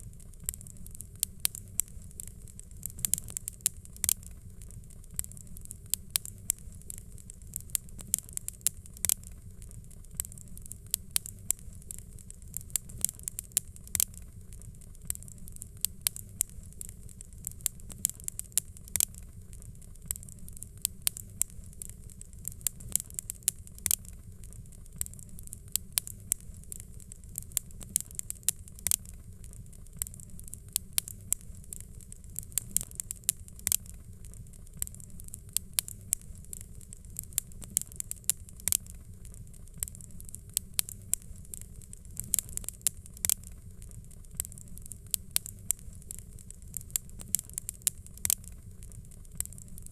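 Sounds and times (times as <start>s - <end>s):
fire crackling and popping: 0.0s - 49.9s
low rumble of flame: 0.0s - 49.9s.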